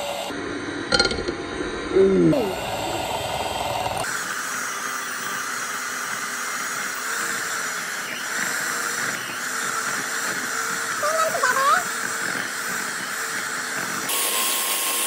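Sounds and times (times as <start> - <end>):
electric hand mixer running: 0.0 - 0.5, 1.4 - 15.0.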